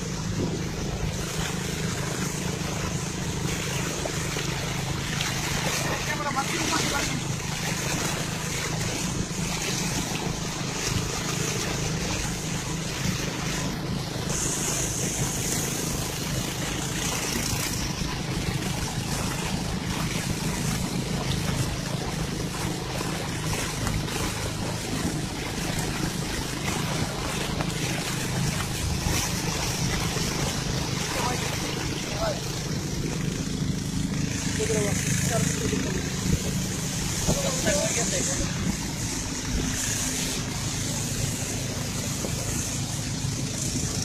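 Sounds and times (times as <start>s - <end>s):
motorboat engine running: 0.0s - 44.0s
water splashing along hull: 0.0s - 44.0s.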